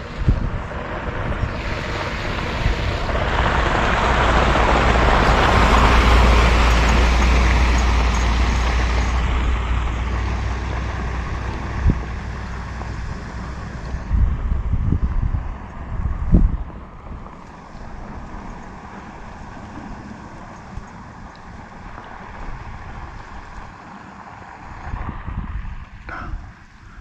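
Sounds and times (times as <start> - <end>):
vehicle passing on road: 0.0 - 27.0.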